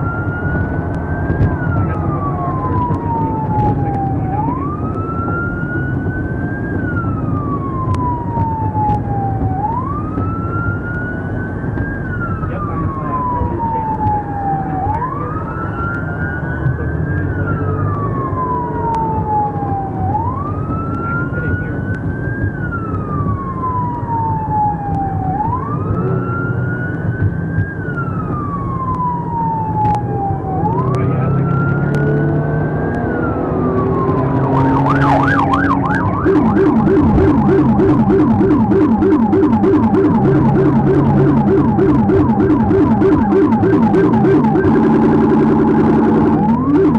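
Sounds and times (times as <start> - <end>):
police siren wailing: 0.0 - 46.9
vehicle rumble: 0.0 - 46.9.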